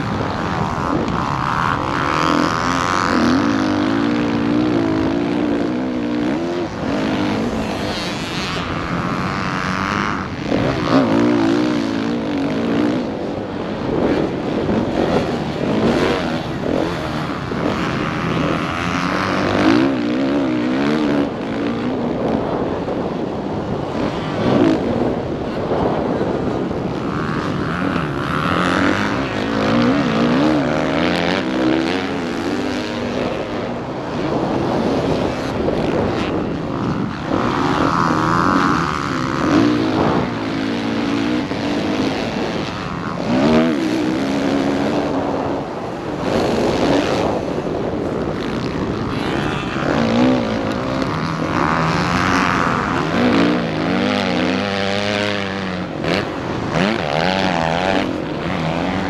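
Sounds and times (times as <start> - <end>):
dirt bike engine revving: 0.0 - 59.0
wind noise: 0.0 - 59.0.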